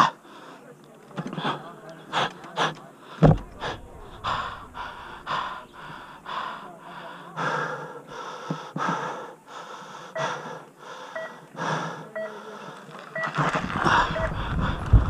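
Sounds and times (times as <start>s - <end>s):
person breathing hard: 1.4s - 15.0s.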